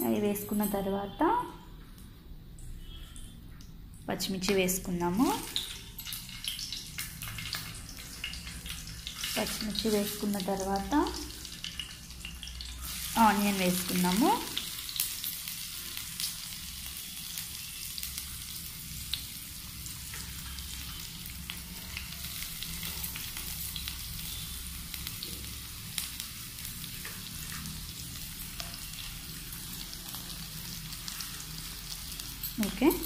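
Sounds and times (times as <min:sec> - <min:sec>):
onions sizzling in hot oil: 0:04.2 - 0:33.0.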